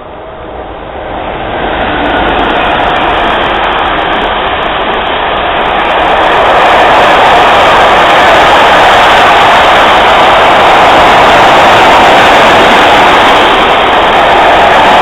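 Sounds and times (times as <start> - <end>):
rail vehicle passing: 0.0 - 15.0.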